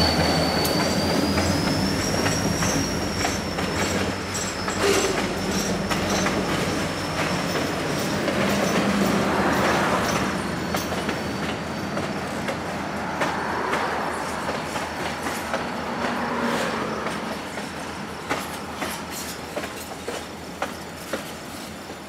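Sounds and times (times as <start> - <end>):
steel wheels clicking over rail joints: 0.0 - 22.0
train cars rolling past: 0.0 - 22.0.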